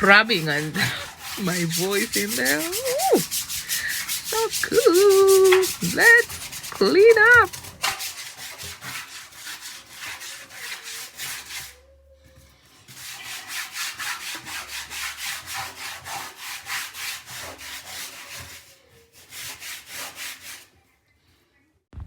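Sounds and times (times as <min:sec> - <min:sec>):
scrub brush scrubbing: 0:00.0 - 0:11.8, 0:12.6 - 0:20.8.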